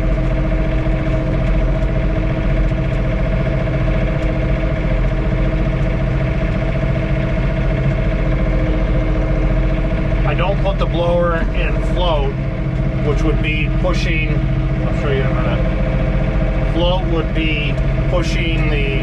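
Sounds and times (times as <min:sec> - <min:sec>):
constant mechanical whine: 0:00.0 - 0:19.0
tractor diesel engine running: 0:00.0 - 0:19.0.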